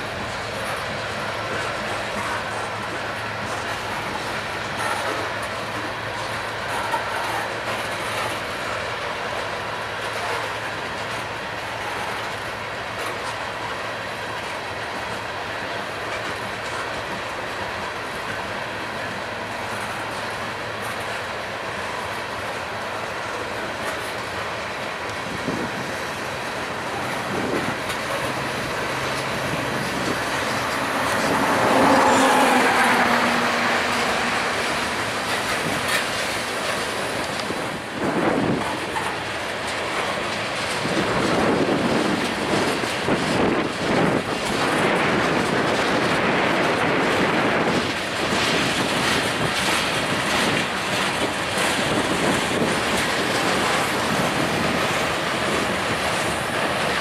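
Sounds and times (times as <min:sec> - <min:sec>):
clacks over rail joints: 0:00.0 - 0:57.0
train wheels rumbling on rails: 0:00.0 - 0:57.0.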